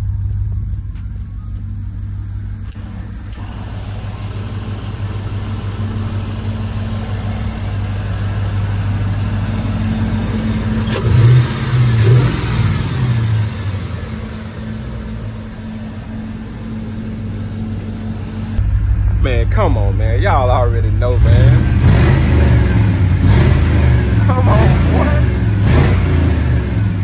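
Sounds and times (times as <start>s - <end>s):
car engine revving while driving: 2.7s - 19.2s, 20.1s - 27.0s.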